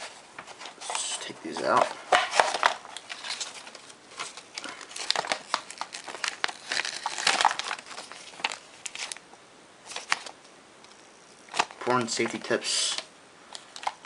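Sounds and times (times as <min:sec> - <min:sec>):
plastic and paper crinkling: 0:00.0 - 0:09.2, 0:09.8 - 0:10.4, 0:11.4 - 0:14.0.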